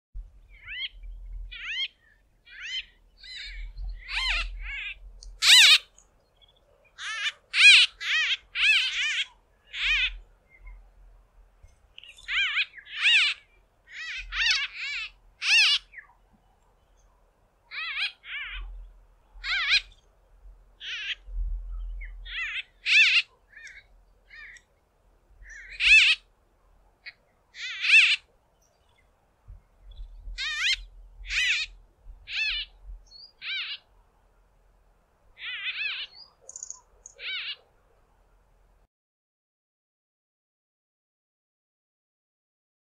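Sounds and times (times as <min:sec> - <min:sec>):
birds calling nasally: 0:00.4 - 0:10.9, 0:11.6 - 0:20.2, 0:20.8 - 0:34.1, 0:35.4 - 0:37.9.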